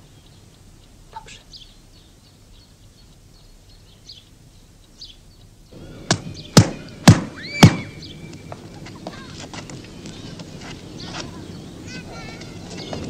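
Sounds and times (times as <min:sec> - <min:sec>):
faint bird chirps: 0:00.0 - 0:12.2.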